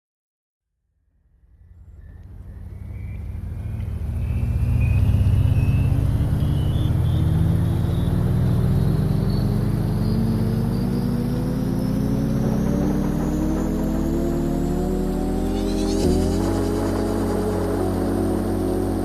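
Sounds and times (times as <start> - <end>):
faint rising whine: 1.3 - 19.0.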